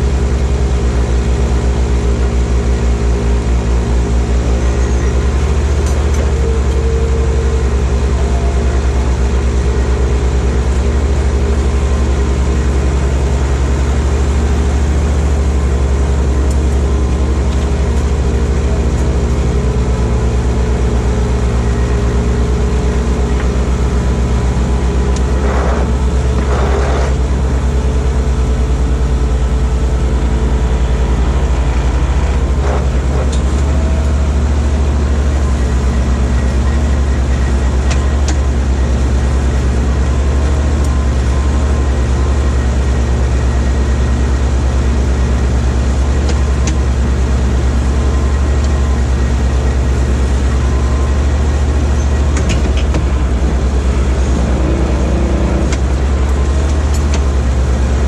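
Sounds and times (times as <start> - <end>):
skid steer engine droning: 0.0 - 58.0.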